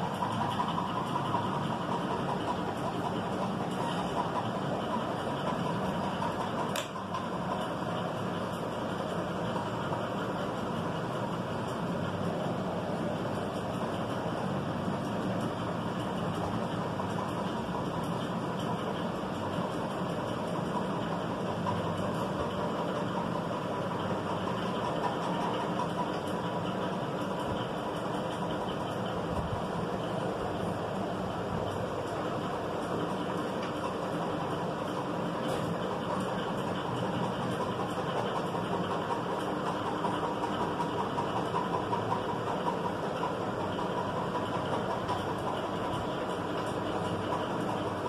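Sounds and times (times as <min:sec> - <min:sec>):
faint steady whine: 0:00.0 - 0:48.0
steady mechanical hum: 0:00.0 - 0:48.0.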